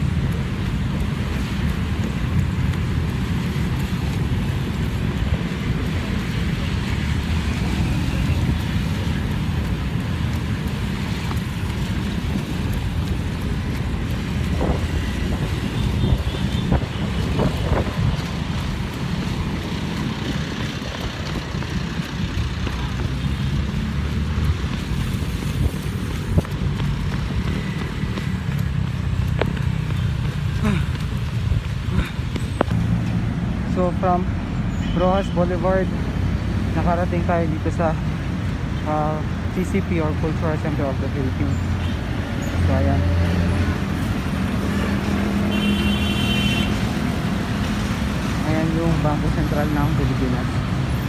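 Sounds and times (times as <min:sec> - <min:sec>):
road traffic noise: 0:00.0 - 0:51.0.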